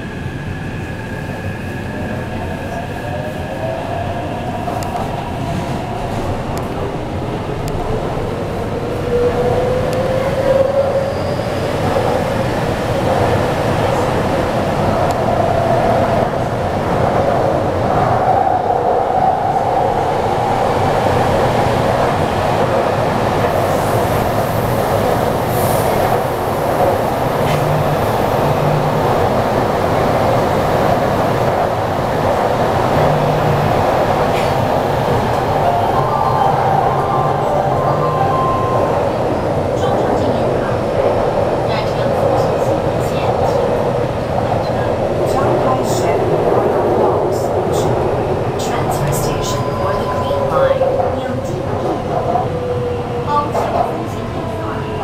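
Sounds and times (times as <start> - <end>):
rumble of wheels and tunnel: 0.0 - 55.0.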